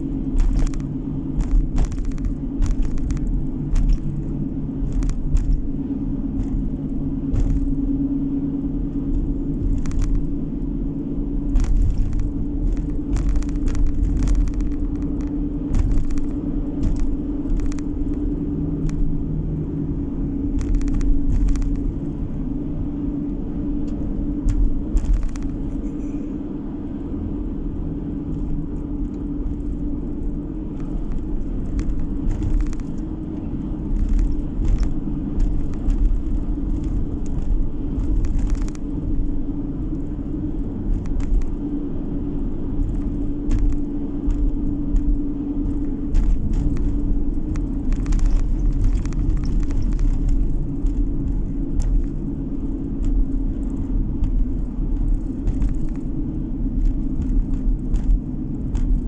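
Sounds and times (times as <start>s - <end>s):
small knocks and rattles: 0.0s - 23.1s, 23.7s - 26.3s, 28.2s - 59.0s
car cabin road noise: 0.0s - 59.0s.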